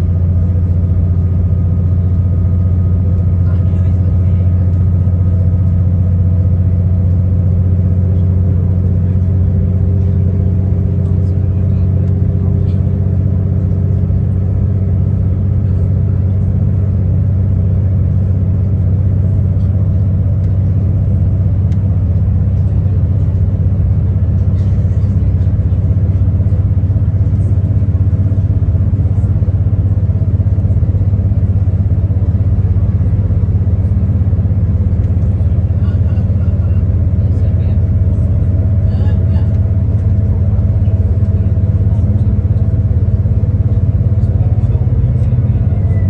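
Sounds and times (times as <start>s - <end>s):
diesel railcar engine drone and rumble: 0.0s - 46.0s.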